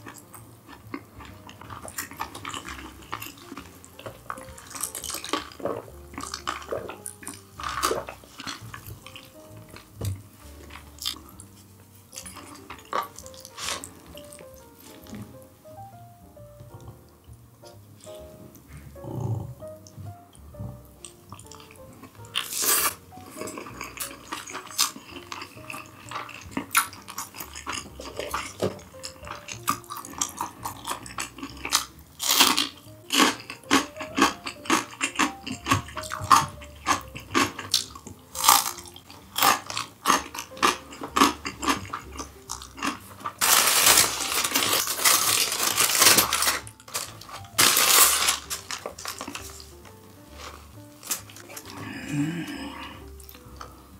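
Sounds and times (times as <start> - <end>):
person chewing: 0.0 - 15.4, 19.0 - 53.9
light background music: 0.0 - 53.9.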